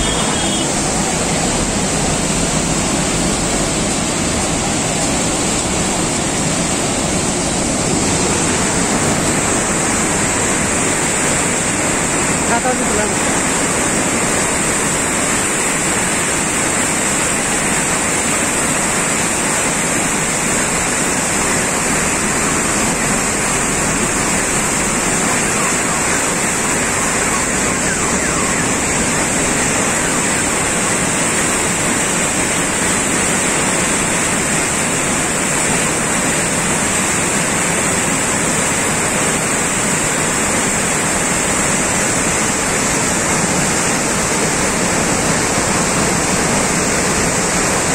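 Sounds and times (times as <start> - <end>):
river floodwater rushing: 0.0 - 47.9.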